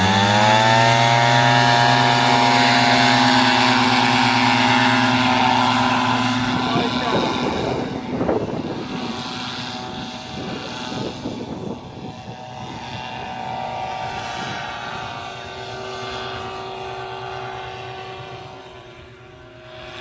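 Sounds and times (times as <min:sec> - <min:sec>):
paramotor engine droning: 0:00.0 - 0:20.0.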